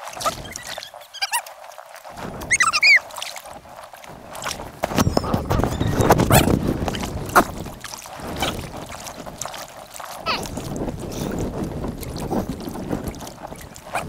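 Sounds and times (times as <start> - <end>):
water splashing around paddles: 0.0 - 14.0.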